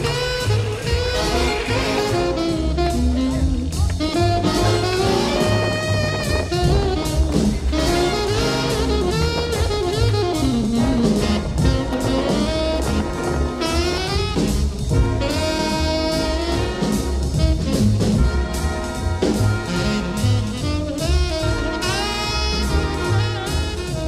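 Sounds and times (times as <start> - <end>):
drum kit: 0.0 - 24.0
saxophone melody: 0.0 - 24.0.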